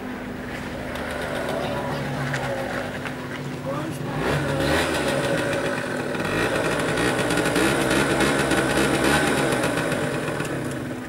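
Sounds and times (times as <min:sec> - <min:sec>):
scooter engine at low revs: 0:00.0 - 0:11.0.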